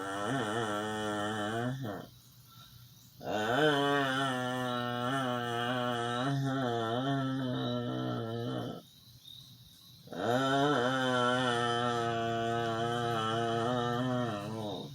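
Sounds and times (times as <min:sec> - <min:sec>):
sleeping person moaning: 0:00.0 - 0:02.1, 0:03.2 - 0:08.8, 0:10.1 - 0:14.9.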